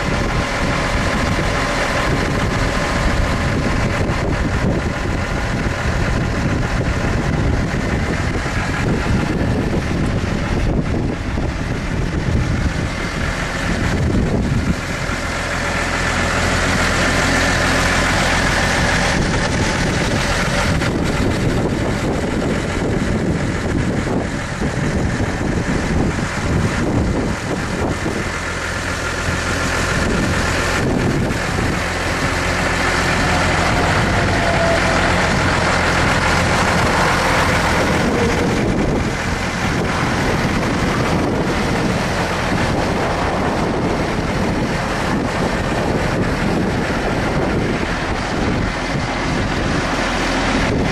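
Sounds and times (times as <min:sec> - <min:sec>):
diesel tractor engine idling: 0:00.0 - 0:50.9.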